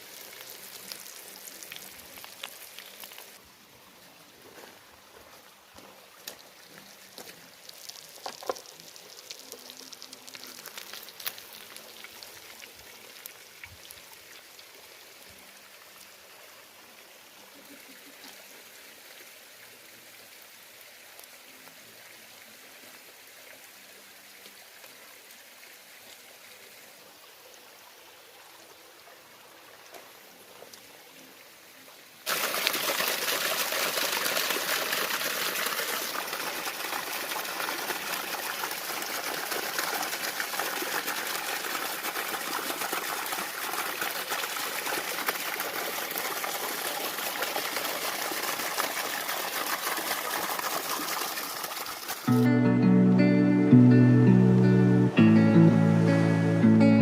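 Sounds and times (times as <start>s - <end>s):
rushing stream water: 0.0s - 52.6s.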